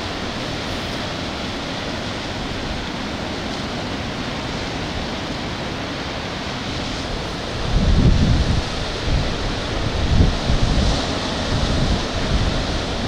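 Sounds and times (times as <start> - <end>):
surf washing against rocks: 0.0 - 13.0.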